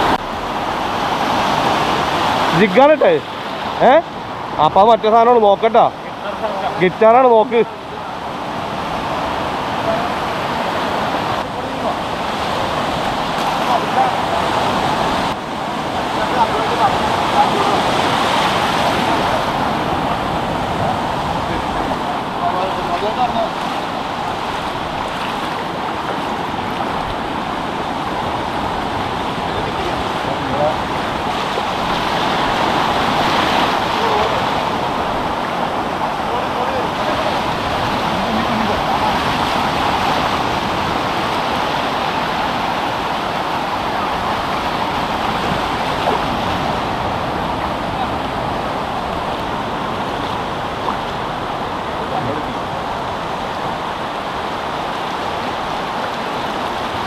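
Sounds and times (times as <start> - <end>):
sea surf washing: 0.0 - 57.0
waves breaking on a beach: 0.0 - 57.0.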